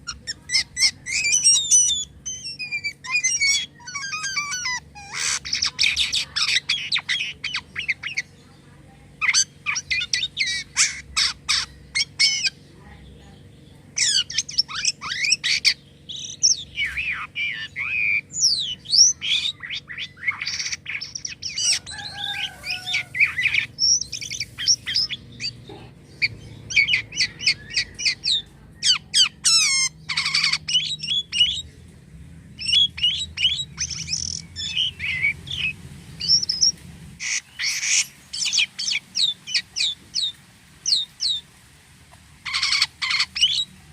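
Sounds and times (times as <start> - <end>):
myna bird singing: 0.0 - 43.9.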